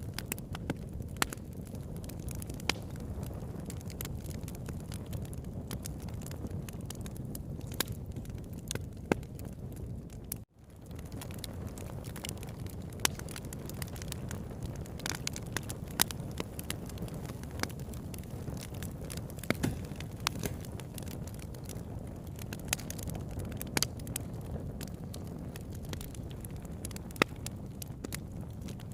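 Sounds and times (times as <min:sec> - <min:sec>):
campfire flames rumbling: 0:00.0 - 0:28.9
wood crackling and popping: 0:00.0 - 0:28.9.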